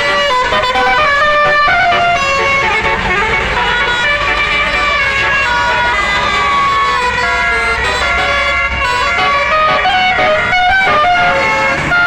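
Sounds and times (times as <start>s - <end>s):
bus musical horn playing tune: 0.0s - 12.0s.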